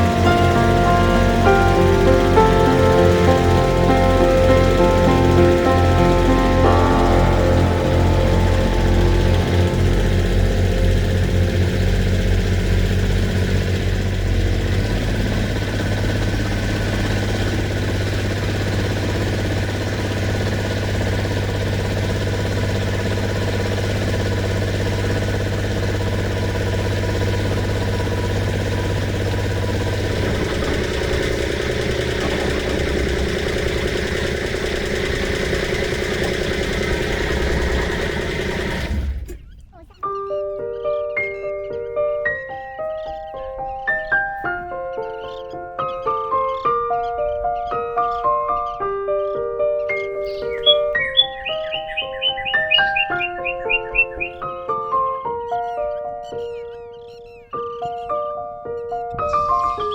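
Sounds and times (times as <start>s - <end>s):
boat engine running: 0.0s - 59.8s.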